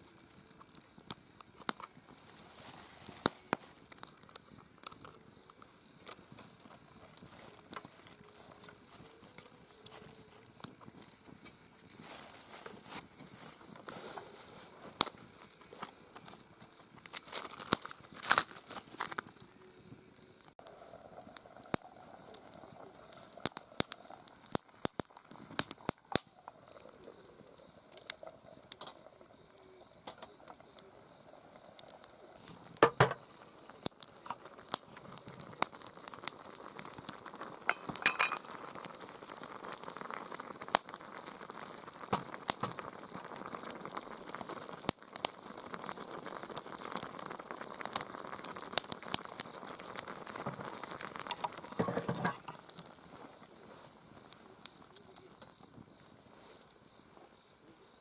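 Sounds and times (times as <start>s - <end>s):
food sizzling: 0.0s - 57.1s
campfire crackling and popping: 0.0s - 58.0s.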